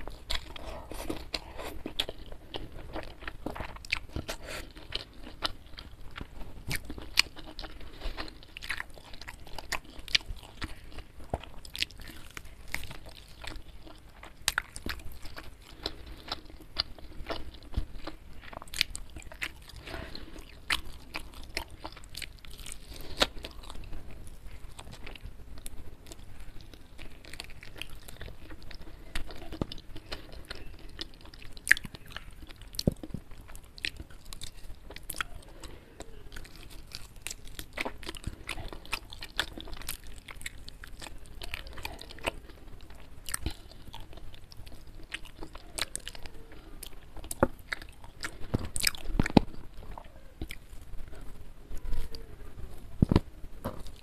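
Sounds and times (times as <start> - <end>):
crunchy chewing of fried chicken: 0.0 - 54.0.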